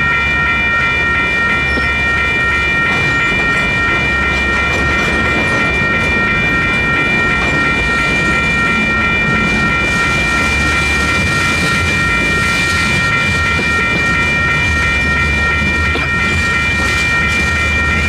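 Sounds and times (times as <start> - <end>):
electronic crossing bells ringing: 0.0 - 18.0
train wheels rumbling and clacking: 0.0 - 18.0.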